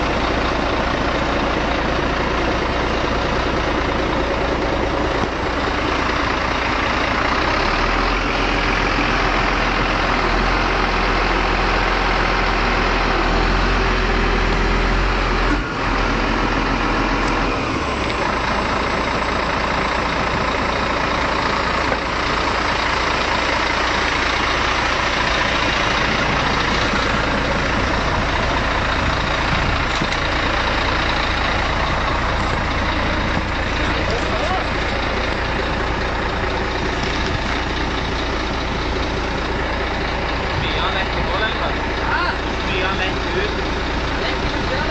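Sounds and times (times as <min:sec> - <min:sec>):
heavy engine idling: 0:00.0 - 0:44.9.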